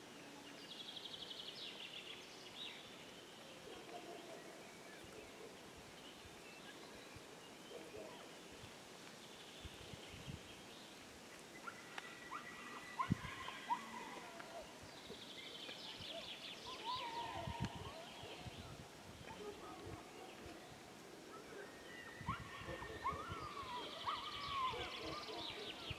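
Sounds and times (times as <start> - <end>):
birds singing: 0.0 - 8.6, 9.2 - 25.9.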